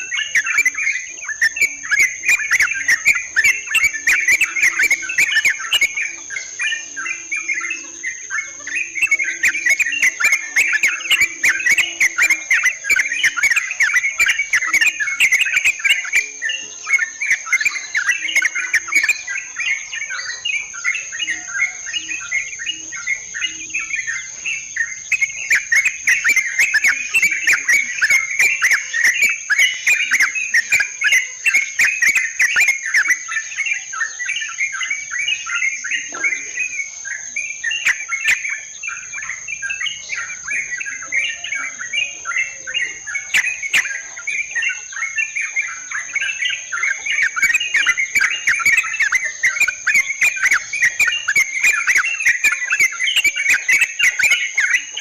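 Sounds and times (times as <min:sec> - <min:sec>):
birds chattering: 0:00.0 - 0:55.0.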